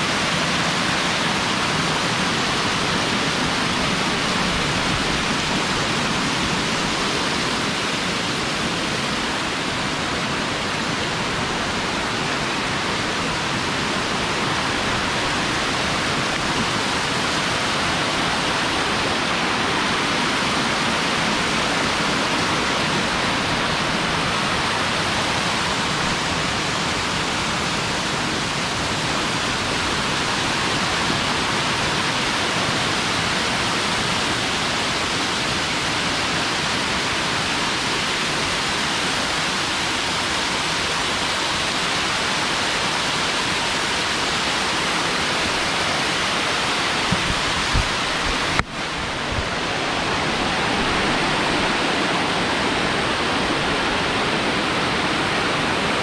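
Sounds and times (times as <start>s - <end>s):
waterfalls rushing over rocks: 0.0s - 56.0s.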